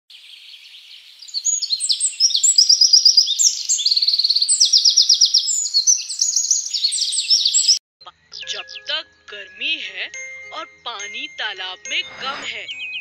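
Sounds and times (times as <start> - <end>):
birds chirping and trilling: 0.1 - 11.2, 11.9 - 13.0.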